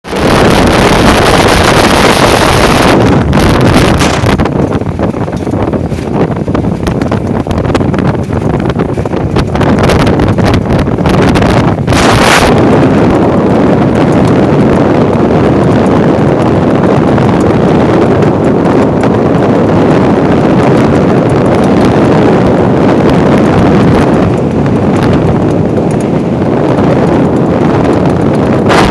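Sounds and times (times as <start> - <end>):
boat engine running: 0.0 - 28.9
wind buffeting microphone: 0.0 - 28.9.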